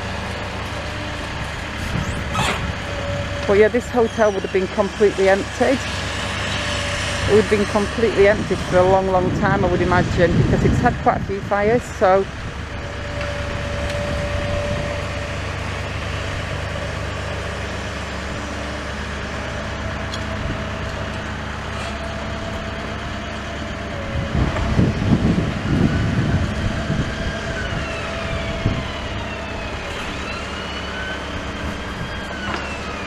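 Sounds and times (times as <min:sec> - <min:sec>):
emergency siren wailing: 0:00.0 - 0:33.0
low engine rumble: 0:00.0 - 0:33.0.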